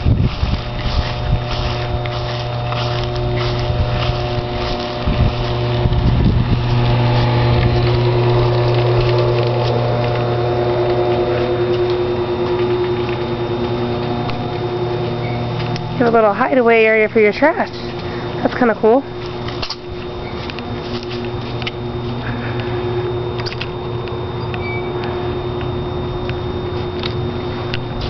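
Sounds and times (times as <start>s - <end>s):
motor-driven machine humming: 0.0s - 28.0s.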